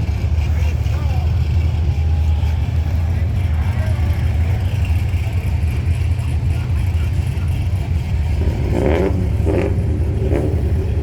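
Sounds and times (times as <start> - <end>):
car engines rumbling: 0.0 - 11.0
voices: 0.0 - 11.0.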